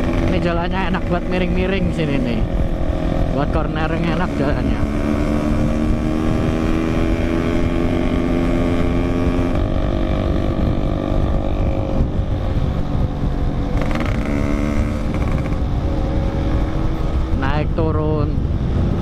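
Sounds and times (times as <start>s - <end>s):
two-stroke motorcycle engine: 0.0s - 17.4s
wind rumbling on microphone: 0.0s - 19.0s.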